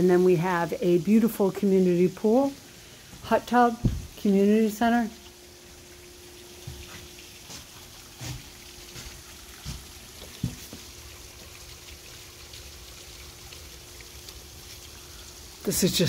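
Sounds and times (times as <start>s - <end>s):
fountain splashing onto water: 0.0s - 16.0s.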